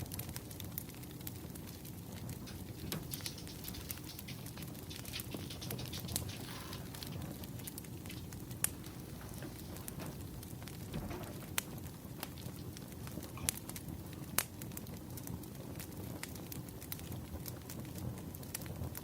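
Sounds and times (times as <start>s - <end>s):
firewood crackling and popping: 0.0s - 19.0s
steady rush of flame: 0.0s - 19.0s.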